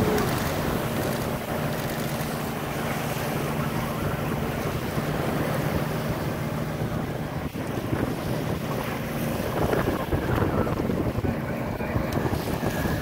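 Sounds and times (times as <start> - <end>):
boat engine droning: 0.0 - 13.0
waves washing: 0.0 - 13.0
wind buffeting microphone: 0.0 - 13.0.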